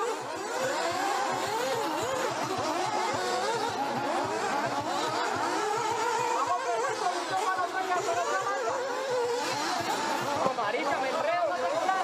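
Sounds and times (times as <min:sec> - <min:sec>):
rc car engines racing: 0:00.0 - 0:12.0.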